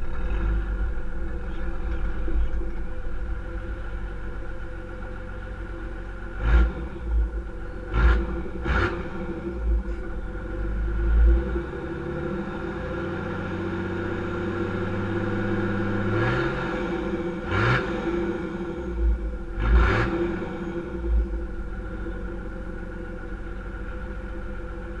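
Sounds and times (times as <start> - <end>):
diesel engine idling and revving: 0.0 - 25.0.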